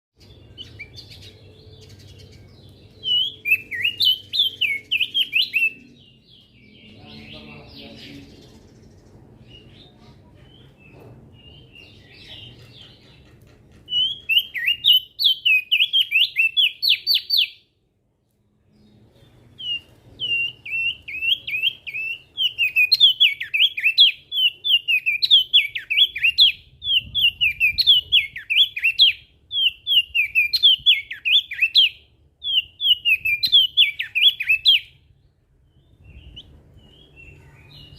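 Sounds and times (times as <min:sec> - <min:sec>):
bird singing chattering song: 0:00.2 - 0:17.8, 0:18.6 - 0:37.9.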